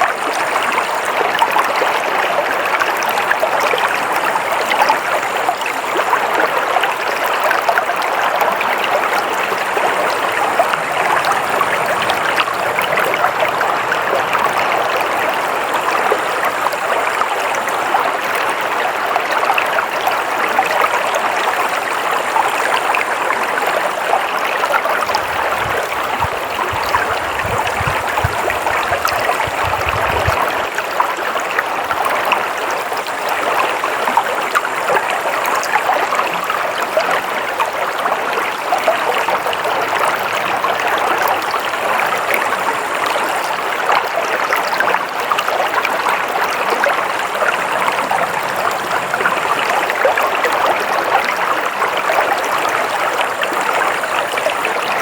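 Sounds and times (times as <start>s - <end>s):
water rushing and splashing: 0.0s - 55.0s.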